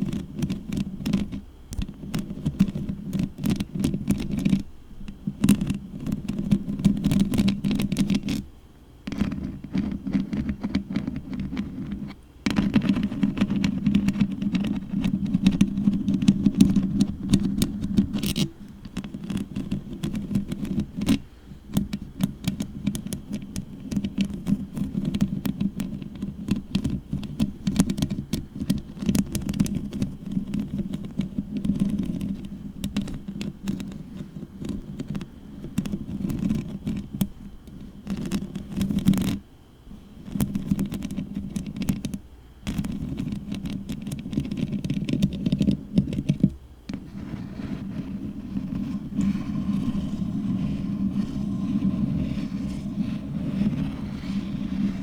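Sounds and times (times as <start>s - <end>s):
fingernails scratching microphone: 0.0s - 8.5s, 9.1s - 39.4s, 42.7s - 55.0s.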